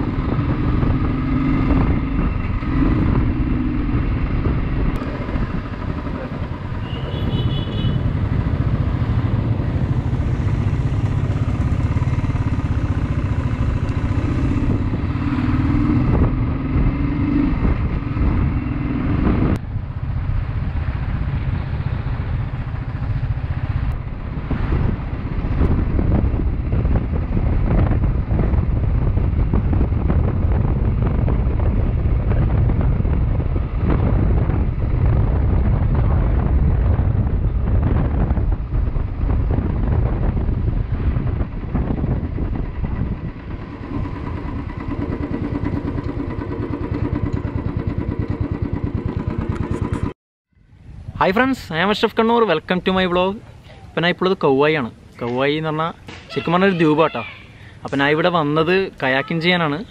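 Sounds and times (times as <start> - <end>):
motorcycle engine: 0.0 - 51.2
wind on microphone: 0.0 - 51.5.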